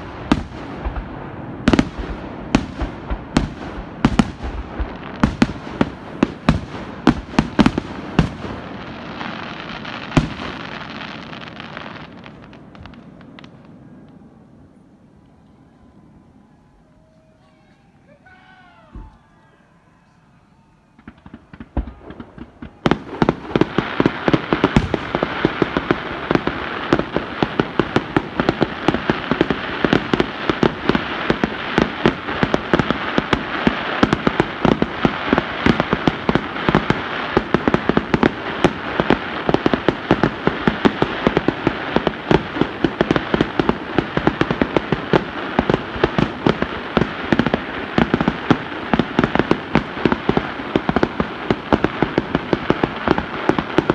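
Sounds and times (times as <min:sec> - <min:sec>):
fireworks crackling: 0:00.0 - 0:15.5, 0:20.7 - 0:53.9.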